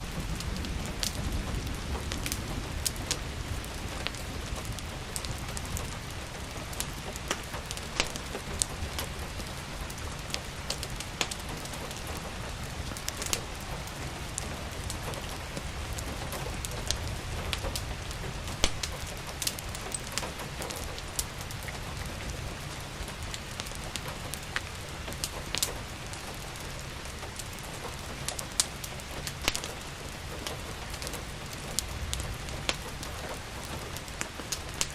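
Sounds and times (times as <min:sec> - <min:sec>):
rain falling: 0:00.0 - 0:34.9
wood fire crackling: 0:00.0 - 0:34.9.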